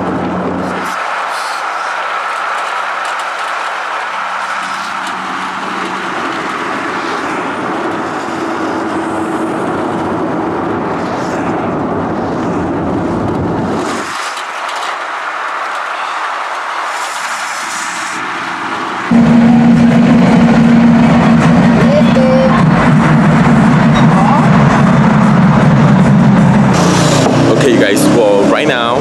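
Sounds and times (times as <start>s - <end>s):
tyre and road noise: 0.0s - 29.0s
wind rushing over microphone: 0.0s - 29.0s.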